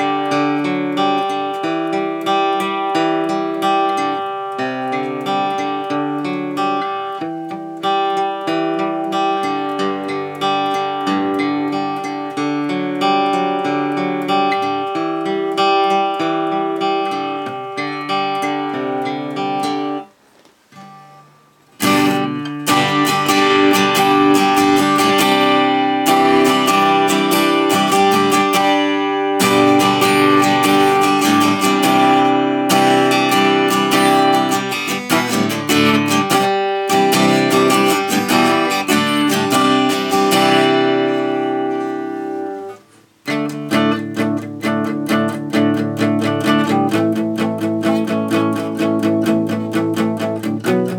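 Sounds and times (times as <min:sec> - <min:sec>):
acoustic guitar picking and strumming: 0:00.0 - 0:50.9.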